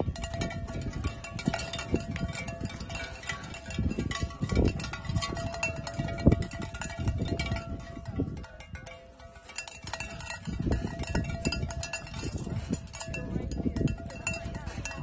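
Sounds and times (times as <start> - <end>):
low thumps and rumble: 0.0 - 8.4, 9.6 - 15.0
metal clinking and chiming: 0.0 - 15.0.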